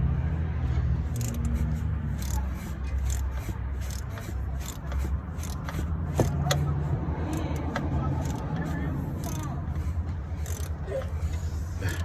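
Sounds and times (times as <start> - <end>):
wrench clicking and scraping on bolt: 1.0 - 12.0.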